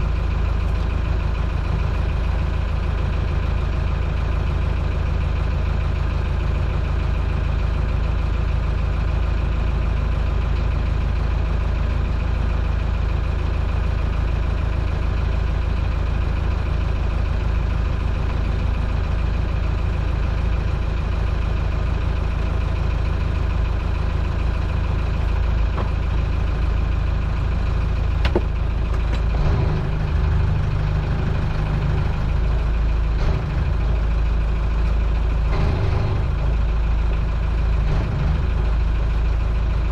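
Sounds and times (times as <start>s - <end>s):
boat engine idling: 0.0s - 39.9s.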